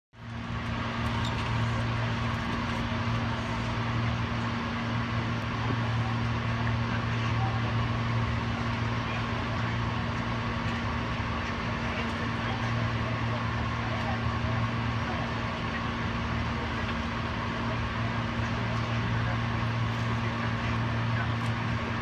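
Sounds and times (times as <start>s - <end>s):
train electrical hum: 0.2s - 22.0s.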